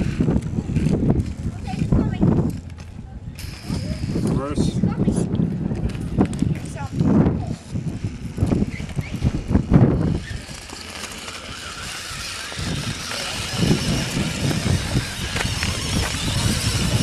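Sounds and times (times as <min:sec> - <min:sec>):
rc car motor whine: 0:00.0 - 0:05.2, 0:06.0 - 0:17.0.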